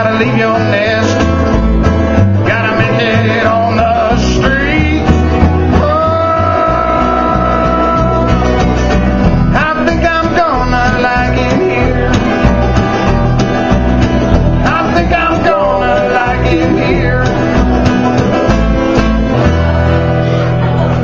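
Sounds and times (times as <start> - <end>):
mandolin: 0.0 - 21.0
plucked upright bass: 0.0 - 21.0
strummed acoustic guitar: 0.0 - 21.0.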